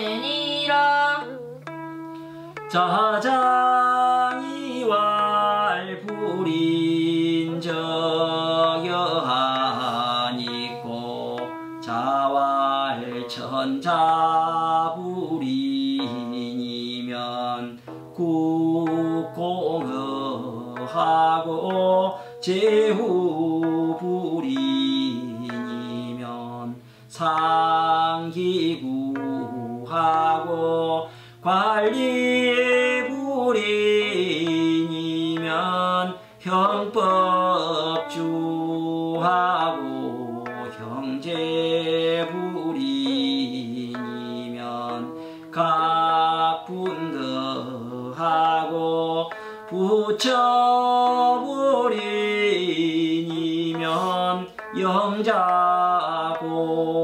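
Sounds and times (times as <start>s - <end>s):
man chanting: 2.7s - 57.0s.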